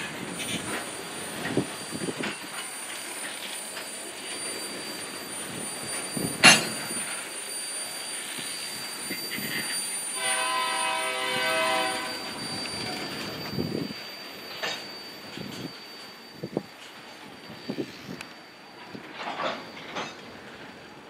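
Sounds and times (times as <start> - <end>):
high ringing: 0.0 - 20.6.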